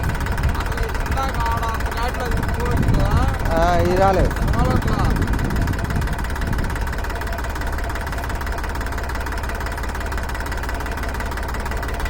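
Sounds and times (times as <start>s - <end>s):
tractor diesel engine knocking: 0.0s - 12.0s.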